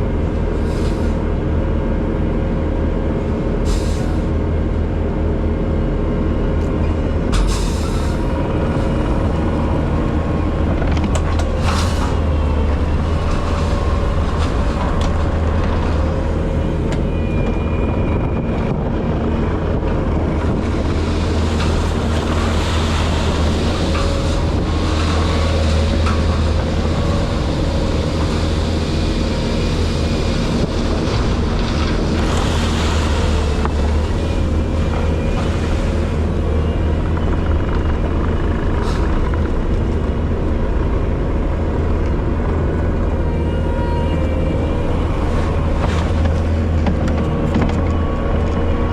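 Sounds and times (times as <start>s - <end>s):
diesel engine drone: 0.0s - 48.9s.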